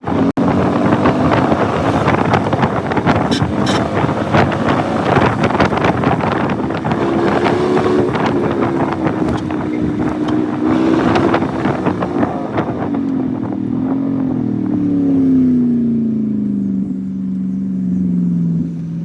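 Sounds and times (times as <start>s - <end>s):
wind noise on microphone: 0.0s - 15.8s
car engine running: 0.0s - 19.0s.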